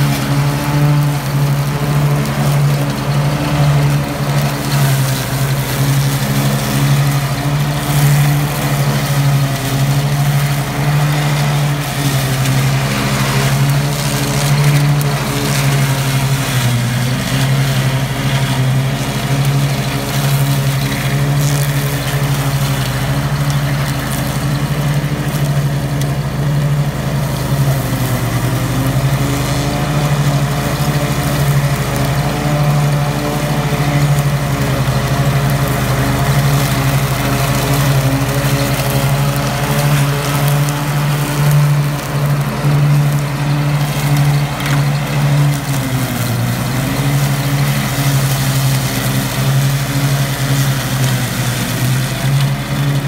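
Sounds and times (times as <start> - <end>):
ride-on mower engine running: 0.0 - 53.0.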